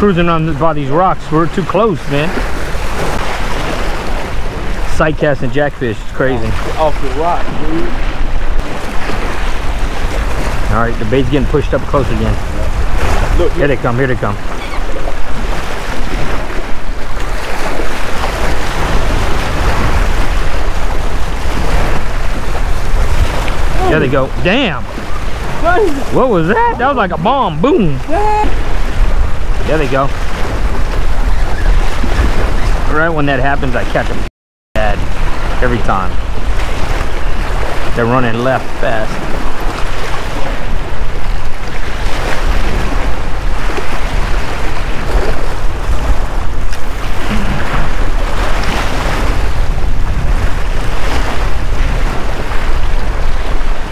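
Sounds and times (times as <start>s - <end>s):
waves splashing against rocks: 0.0s - 33.1s, 34.9s - 53.9s
wind buffeting microphone: 0.0s - 53.9s.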